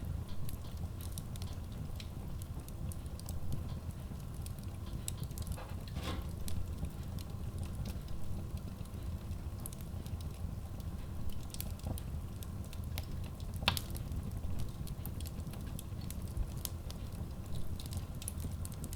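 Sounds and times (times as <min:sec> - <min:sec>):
fire rumbling in stove: 0:00.1 - 0:18.9
wood crackling and popping: 0:00.4 - 0:18.9.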